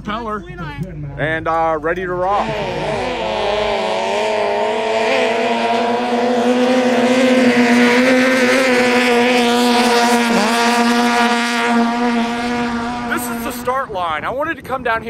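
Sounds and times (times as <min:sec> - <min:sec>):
boat engines high-pitched drone: 0:00.0 - 0:15.0.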